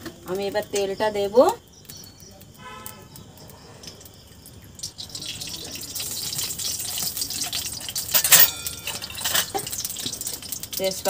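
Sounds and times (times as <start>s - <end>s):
oil hissing and sizzling: 0.0s - 11.0s
sharp crackle: 0.0s - 11.0s.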